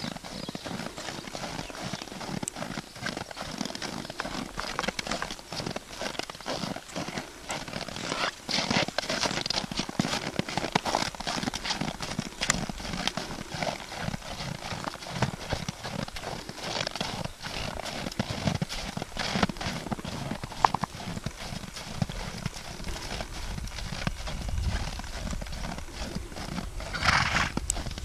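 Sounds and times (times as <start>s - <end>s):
horse hoofbeats trotting on snow: 0.0s - 28.0s.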